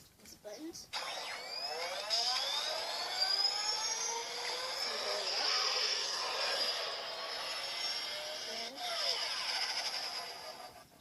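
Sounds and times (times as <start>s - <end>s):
toy jet engine sound effect: 0.9s - 10.8s.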